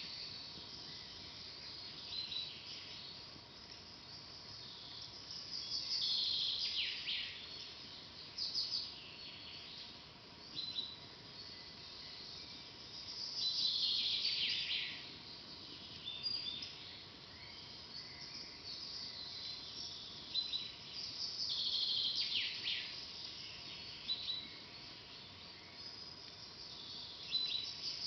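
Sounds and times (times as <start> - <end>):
faint background hiss: 0.0 - 28.0
songbird trilled songs: 0.0 - 28.0.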